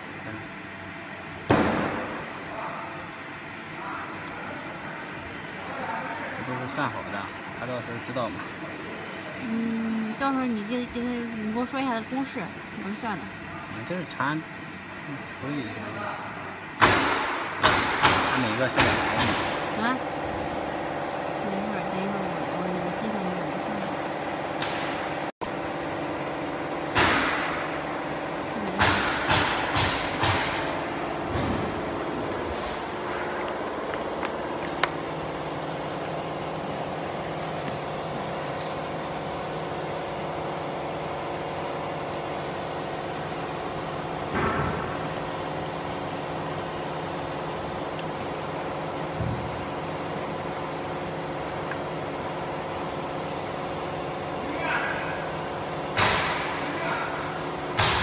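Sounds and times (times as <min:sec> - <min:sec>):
laser marking machine humming: 0:00.0 - 0:58.0.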